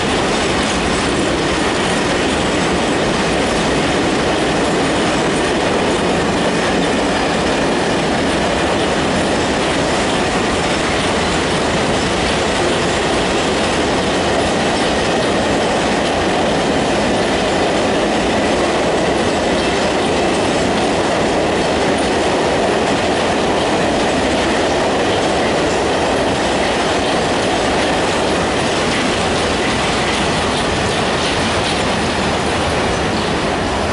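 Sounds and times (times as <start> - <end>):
train wheels clattering over rail joints: 0.0 - 33.9.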